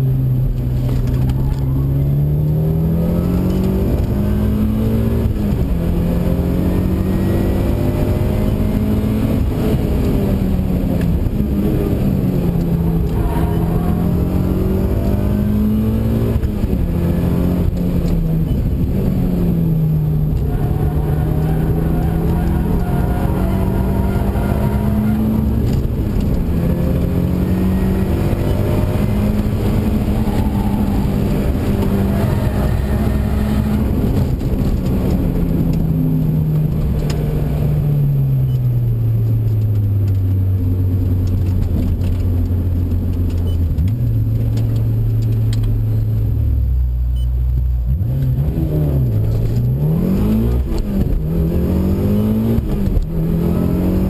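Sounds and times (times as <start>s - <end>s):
car engine revving: 0.0s - 38.3s, 47.5s - 54.0s.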